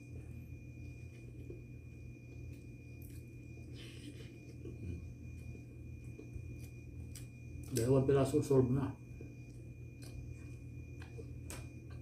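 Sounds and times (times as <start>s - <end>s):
low hum: 0.0s - 12.0s
person chewing bread: 0.1s - 7.9s, 9.0s - 12.0s.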